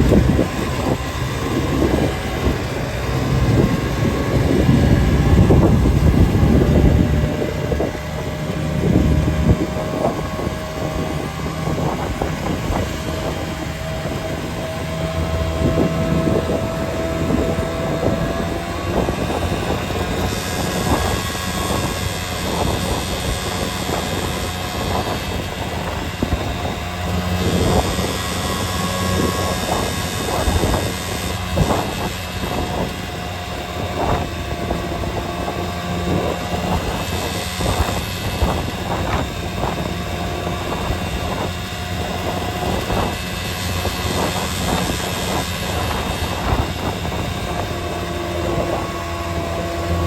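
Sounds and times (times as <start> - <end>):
vehicle engine and road rumble: 0.0 - 50.0.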